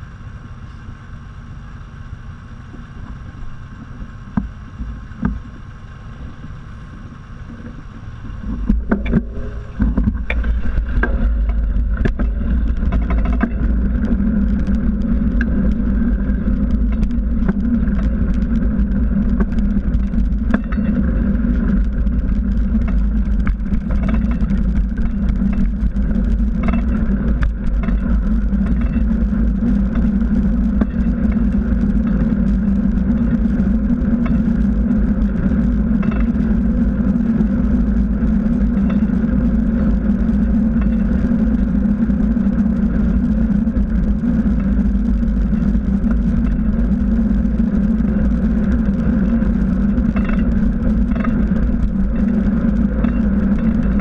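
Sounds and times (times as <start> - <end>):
bike tyre rolling hum: 0.0 - 54.0
wind rumble on microphone: 0.0 - 54.0
small clicks and knocks from bumps: 2.7 - 5.7, 6.4 - 54.0.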